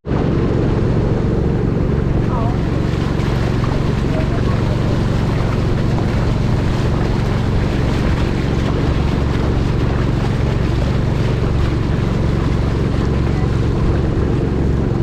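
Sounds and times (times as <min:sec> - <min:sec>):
boat engine droning: 0:00.0 - 0:15.0
wind noise on microphone: 0:00.0 - 0:15.0.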